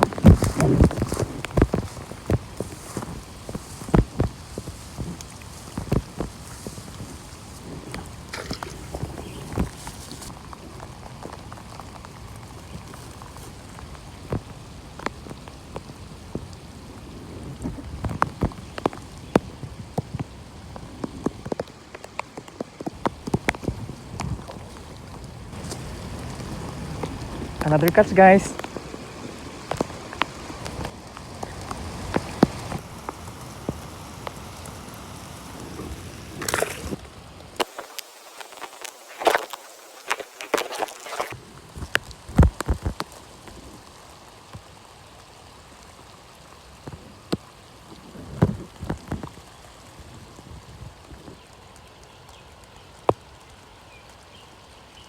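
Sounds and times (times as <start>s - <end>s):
raindrops tapping: 0.0s - 55.0s
steady rain: 0.0s - 55.0s.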